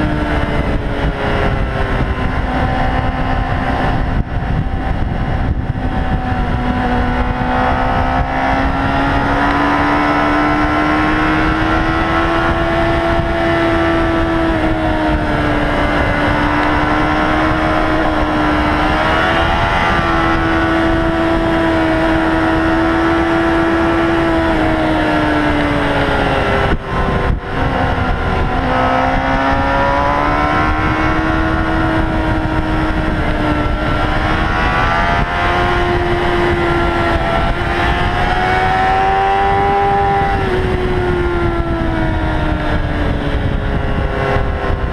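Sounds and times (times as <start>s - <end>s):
motorcycle engine at high revs: 0.0s - 44.9s
wind rush: 0.0s - 44.9s.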